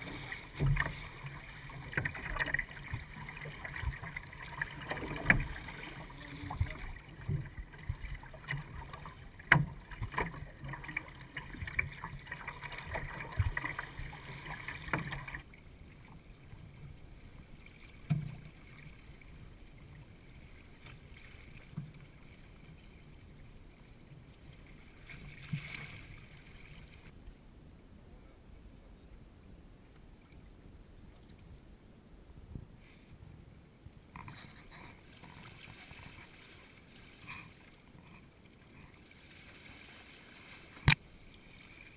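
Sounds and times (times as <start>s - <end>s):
water splashing against a hull: 0.0s - 27.2s, 34.0s - 41.9s.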